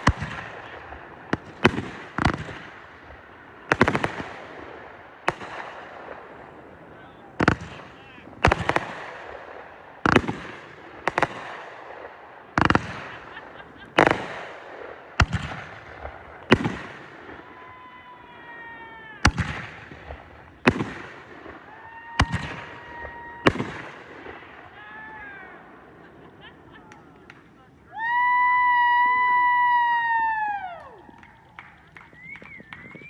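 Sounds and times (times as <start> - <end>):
firework whistling: 0.0 - 11.7, 12.5 - 26.8, 27.9 - 33.0
fireworks bangs: 0.0 - 33.0.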